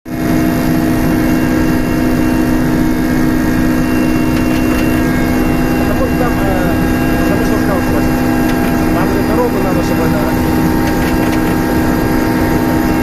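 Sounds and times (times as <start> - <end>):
helicopter engine and rotor: 0.1 - 13.0.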